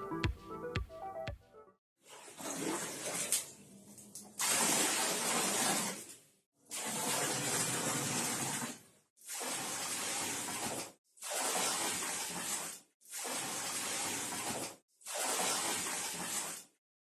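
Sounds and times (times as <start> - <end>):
water pouring into a bucket: 2.0 - 16.8.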